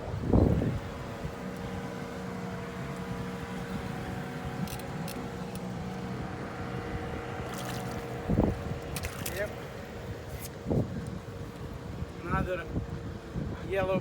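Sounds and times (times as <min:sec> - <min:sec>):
machine hum: 0:00.0 - 0:12.2.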